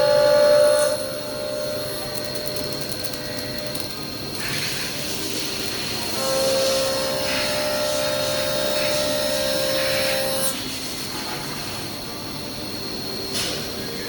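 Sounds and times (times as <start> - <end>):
cnc machine whine: 0.0 - 14.0
lower machine tone: 0.0 - 14.0.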